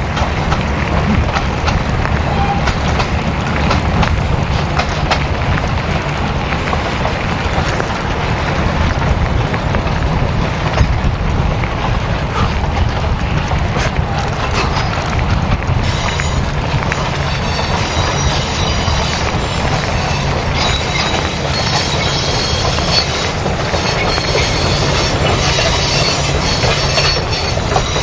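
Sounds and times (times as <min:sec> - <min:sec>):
vehicle rumbling: 0:00.0 - 0:28.0
wind buffeting microphone: 0:00.0 - 0:28.0.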